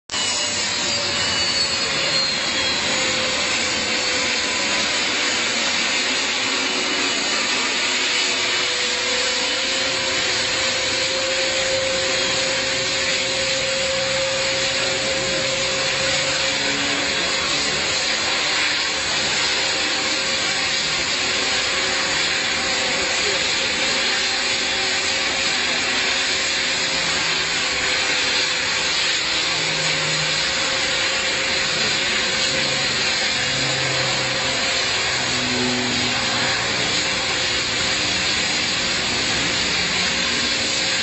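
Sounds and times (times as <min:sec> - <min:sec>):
jet engines running at high power: 0:00.1 - 0:41.0.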